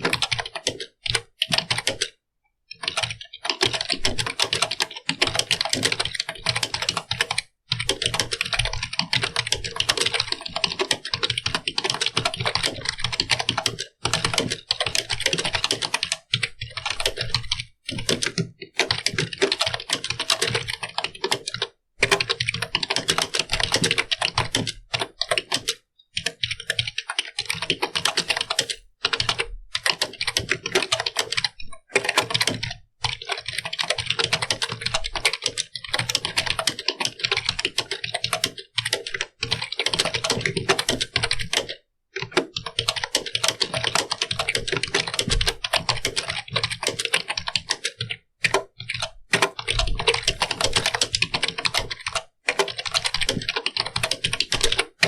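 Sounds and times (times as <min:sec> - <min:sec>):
fast keyboard typing: 0:00.0 - 0:55.0.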